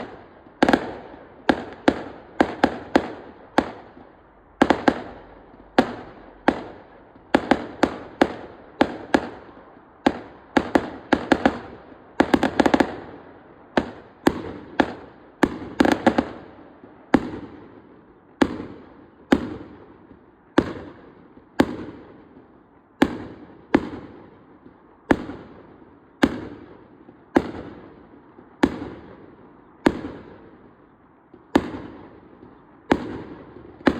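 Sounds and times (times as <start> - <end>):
fireworks bangs with echo: 0.0 - 33.9.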